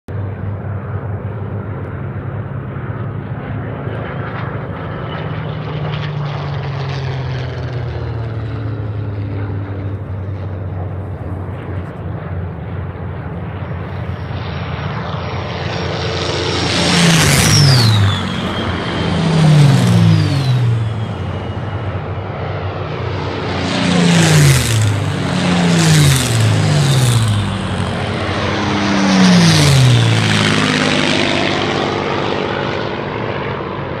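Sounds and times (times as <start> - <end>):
planes passing low overhead: 0.1 - 34.0
propeller plane engines droning: 0.1 - 34.0.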